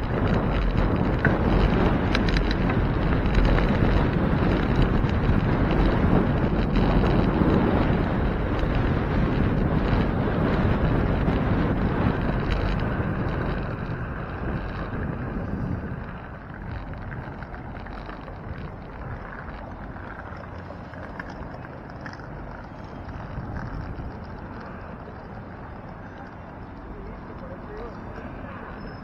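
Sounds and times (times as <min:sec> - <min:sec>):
street noise: 0:00.0 - 0:29.0
wind buffeting microphone: 0:00.0 - 0:29.0.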